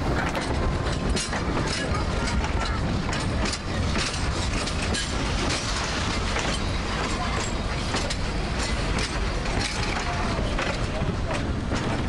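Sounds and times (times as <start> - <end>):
steam locomotive rumbling: 0.0 - 12.0
train clicks and knocks: 0.0 - 12.0.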